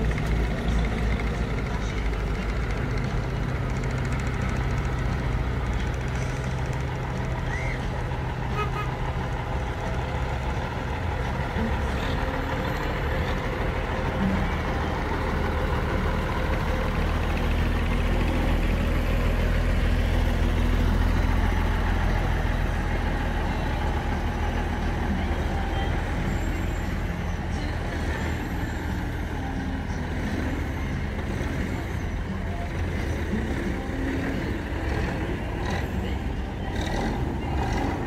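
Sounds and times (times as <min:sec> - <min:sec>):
diesel lorry engine running: 0:00.0 - 0:38.0.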